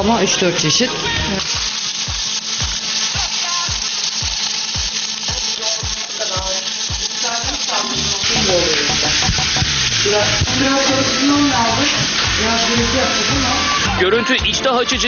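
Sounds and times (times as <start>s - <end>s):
meat sizzling in a pan: 0.0s - 15.0s
background music with a beat: 1.0s - 15.0s.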